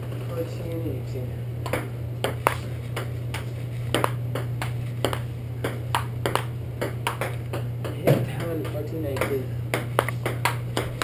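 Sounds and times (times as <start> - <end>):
steady low hum: 0.0 - 11.0
table tennis ball clicks: 1.7 - 11.0.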